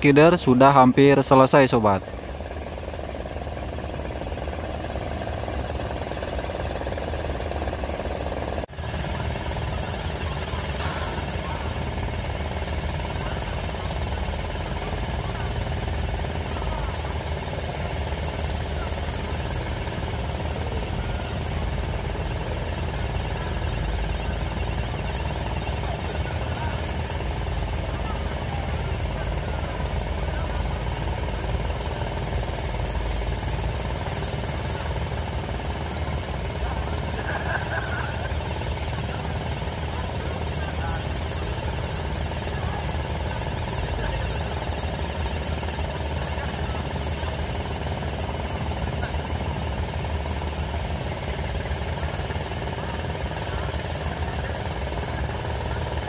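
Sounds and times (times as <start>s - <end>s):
low machinery engine rumble: 0.0s - 56.0s.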